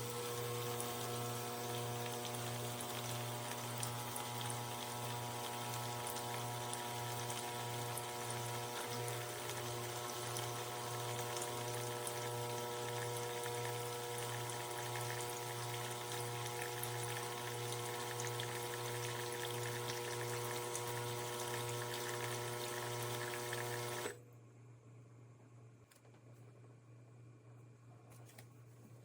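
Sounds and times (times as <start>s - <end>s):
liquid pouring from spout: 0.0s - 24.1s
espresso machine pump humming: 0.0s - 24.2s.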